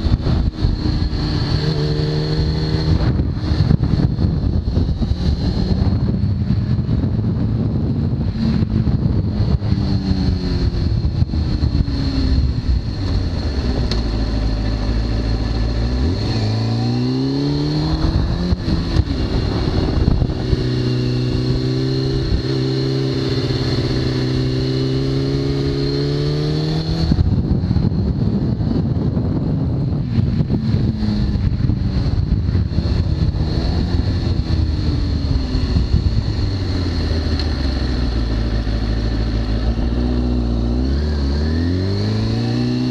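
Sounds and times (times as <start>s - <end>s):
motorcycle engine revving: 0.0s - 42.9s
wind rush: 0.0s - 42.9s.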